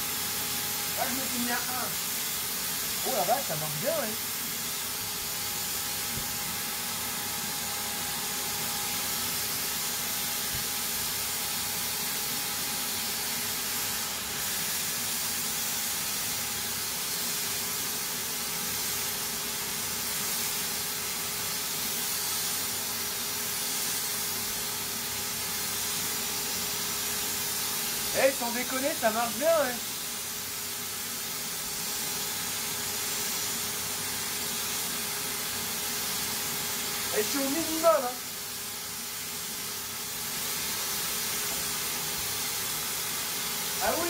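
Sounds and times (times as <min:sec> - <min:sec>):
paint spray gun hissing: 0:00.0 - 0:44.0.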